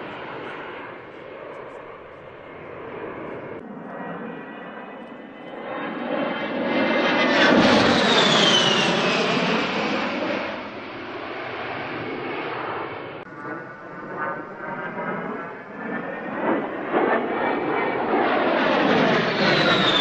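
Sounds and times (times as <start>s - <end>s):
model jet fan whine passing: 0.0s - 20.0s.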